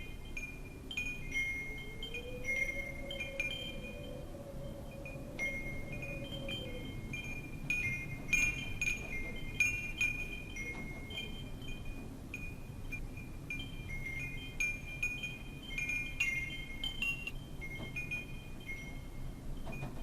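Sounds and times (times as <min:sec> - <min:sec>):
wind chimes ringing: 0:00.0 - 0:20.0.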